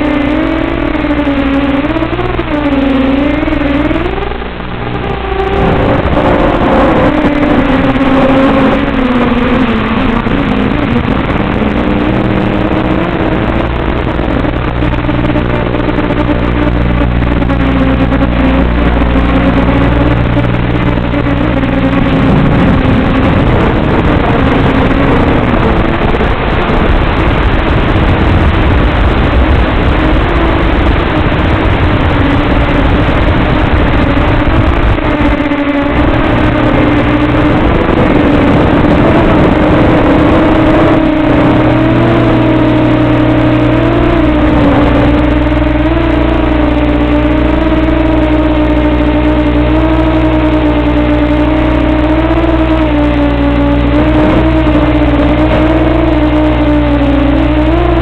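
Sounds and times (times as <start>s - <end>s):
model airplane motor droning: 0.0s - 58.0s
steady rushing noise: 0.0s - 58.0s.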